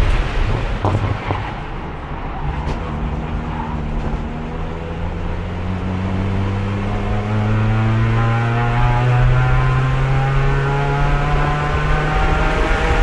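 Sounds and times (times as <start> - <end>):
race car engine: 0.0 - 13.0.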